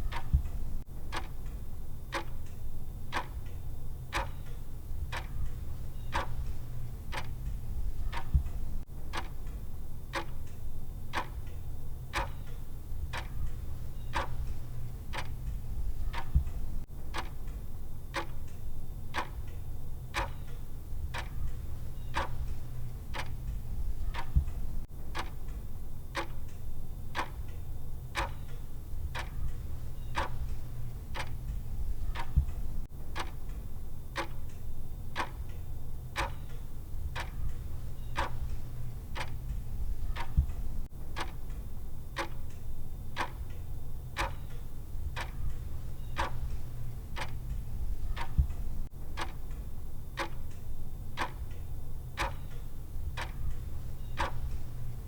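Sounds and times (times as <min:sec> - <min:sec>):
clock ticking: 0:00.0 - 0:55.0
low steady hum: 0:00.0 - 0:55.0.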